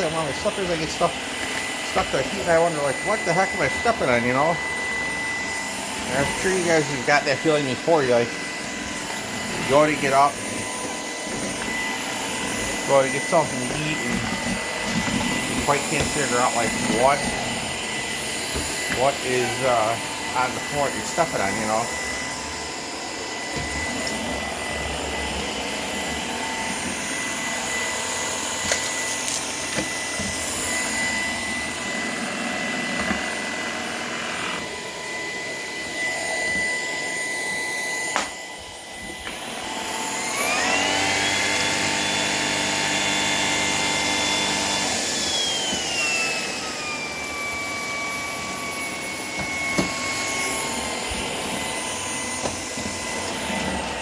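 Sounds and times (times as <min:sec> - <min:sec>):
cordless vacuum whine: 0:00.0 - 0:54.0.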